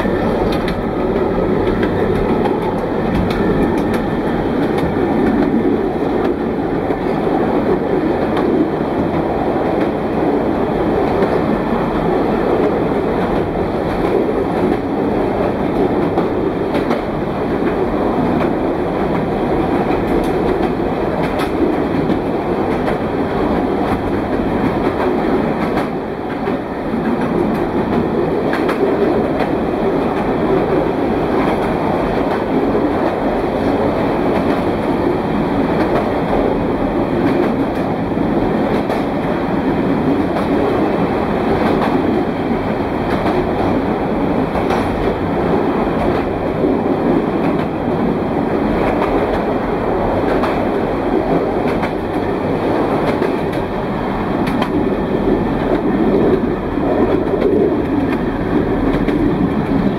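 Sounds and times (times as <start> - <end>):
train rumbling through tunnel: 0.0 - 59.9.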